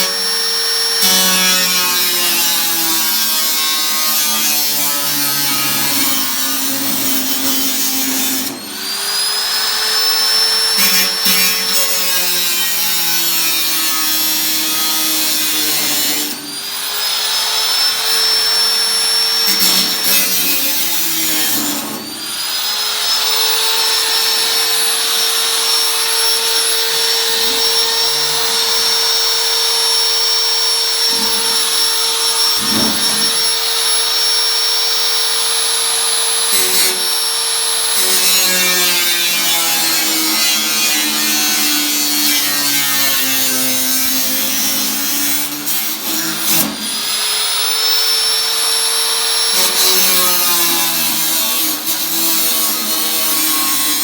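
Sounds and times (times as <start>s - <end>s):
power tool cutting sheet metal: 0.0s - 54.0s.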